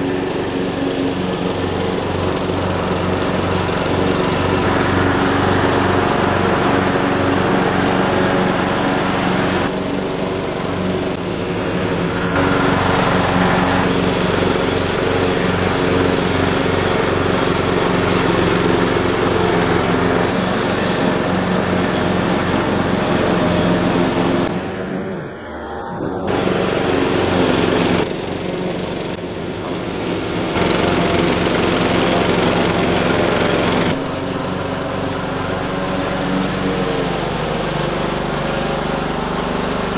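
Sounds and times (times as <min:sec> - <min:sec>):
riding mower engine cutting grass: 0:00.0 - 0:39.9.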